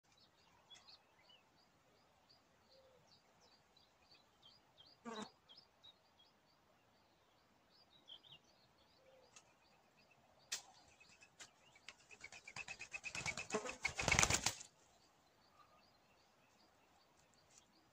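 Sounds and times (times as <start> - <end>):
songbird chirping: 0.0 - 17.9.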